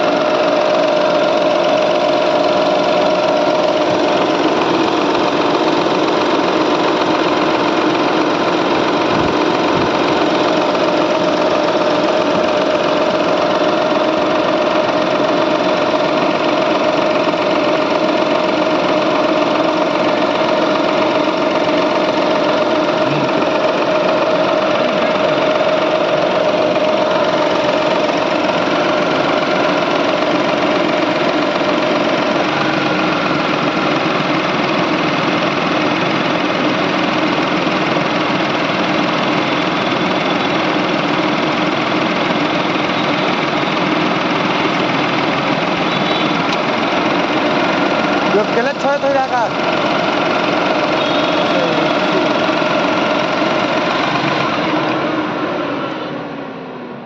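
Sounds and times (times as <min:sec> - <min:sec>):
car air conditioning compressor noise: 0:00.0 - 0:57.0.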